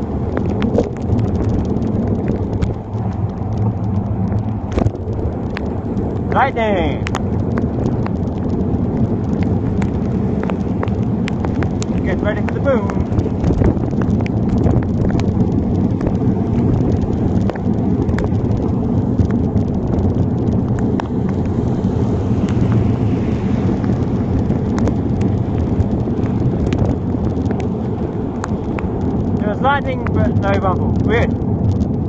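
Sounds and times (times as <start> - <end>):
heavy rain: 0.0 - 32.0
raindrops ticking on phone: 0.0 - 32.0
wind buffeting microphone: 0.0 - 32.0.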